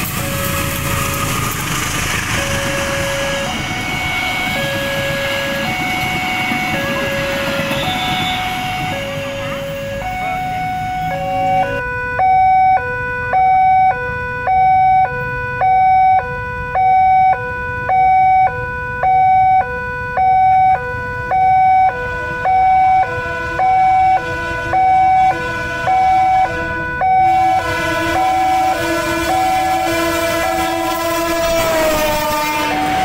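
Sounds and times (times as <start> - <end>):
level crossing two-tone alarm: 0.0 - 33.0.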